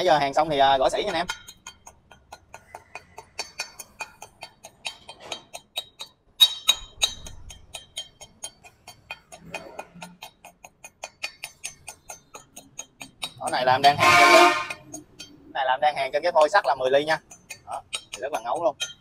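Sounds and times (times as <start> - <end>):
hammer tapping on metal: 0.0 - 19.0.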